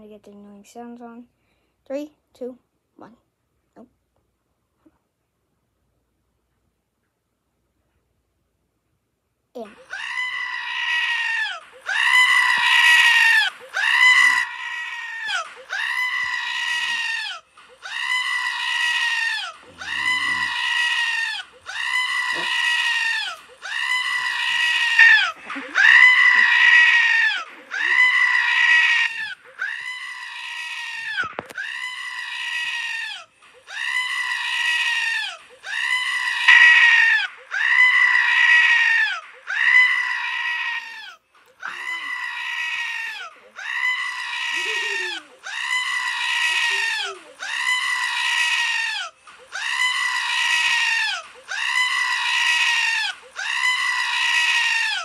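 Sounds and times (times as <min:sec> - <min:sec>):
looped scream-like cry: 0:09.8 - 0:55.0.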